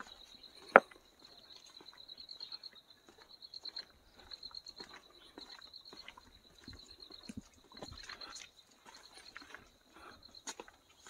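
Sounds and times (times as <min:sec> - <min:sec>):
footsteps on dirt and stone: 0:00.0 - 0:11.0
insect trill: 0:00.0 - 0:11.0.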